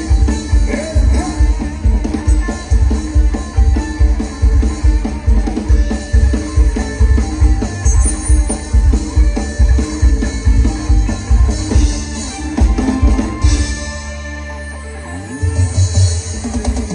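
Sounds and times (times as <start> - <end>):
live band playing: 0.0 - 16.9.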